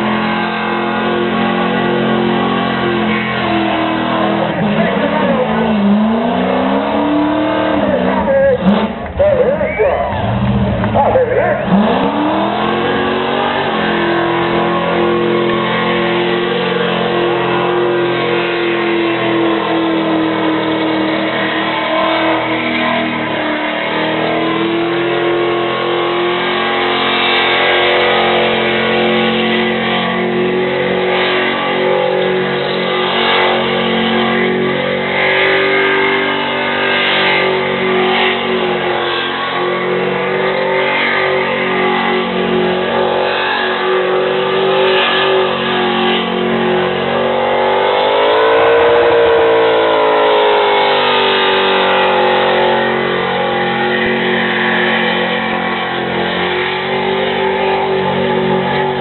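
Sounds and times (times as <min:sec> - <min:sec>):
car engine at high revs: 0:00.0 - 0:59.0.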